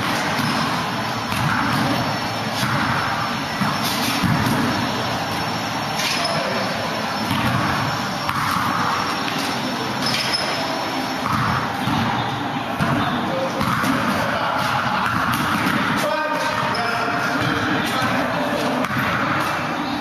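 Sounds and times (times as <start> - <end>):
basketball bouncing on court floor: 0.0 - 18.2, 18.8 - 19.6.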